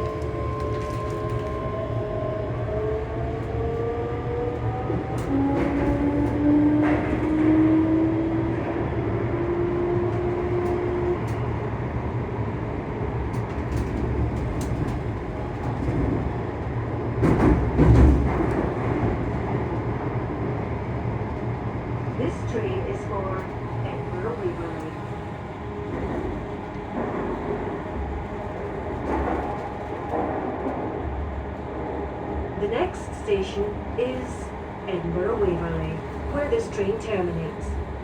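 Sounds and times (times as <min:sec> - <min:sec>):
train traction motors humming: 0:00.0 - 0:38.0
train wheels rumbling on track: 0:00.0 - 0:38.0.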